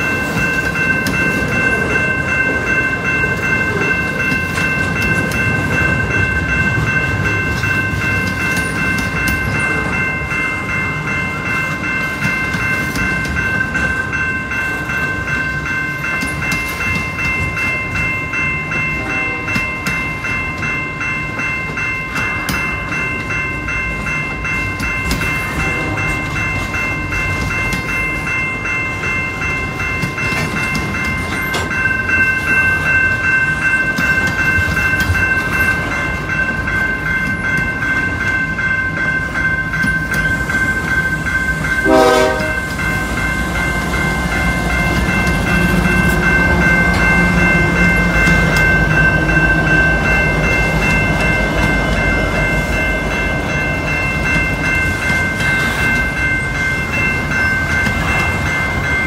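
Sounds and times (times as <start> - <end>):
freight train clickety-clack: 0.0 - 59.0.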